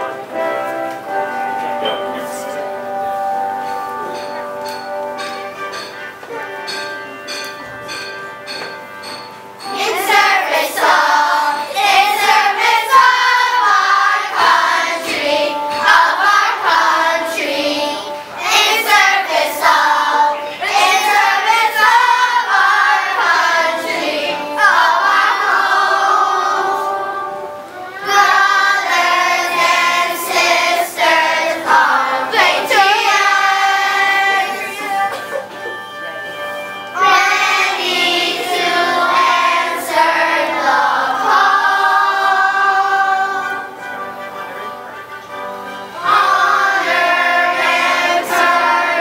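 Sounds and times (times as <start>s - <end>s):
children's choir singing: 0.0s - 49.0s.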